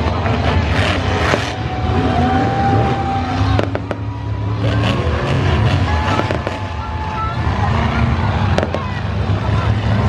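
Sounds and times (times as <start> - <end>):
monster truck engine rumbling: 0.0 - 10.0.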